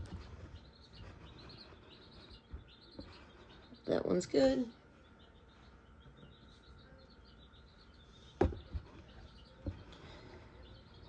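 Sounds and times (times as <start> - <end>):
faint high chirping: 0.0 - 11.0.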